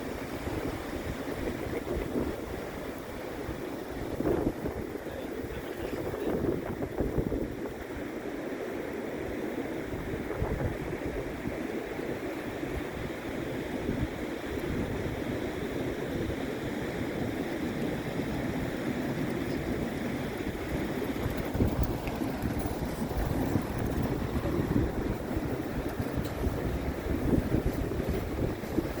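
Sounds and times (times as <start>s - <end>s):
wind buffeting microphone: 0.0s - 8.2s, 9.2s - 29.0s
waves breaking: 0.0s - 29.0s.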